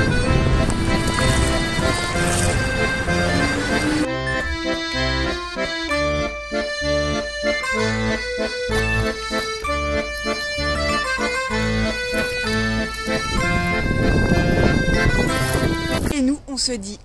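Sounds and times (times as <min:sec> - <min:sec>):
accordion-led background music: 0:00.0 - 0:16.4.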